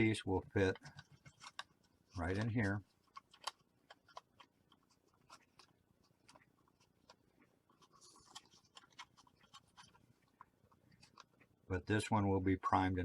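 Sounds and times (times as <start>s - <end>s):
soft rustle: 0.0s - 11.6s
light clicks and taps: 0.5s - 11.6s.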